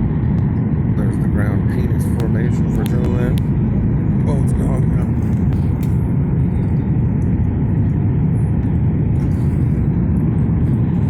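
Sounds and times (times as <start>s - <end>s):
airliner engines: 0.0s - 11.0s
rushing air: 0.0s - 11.0s.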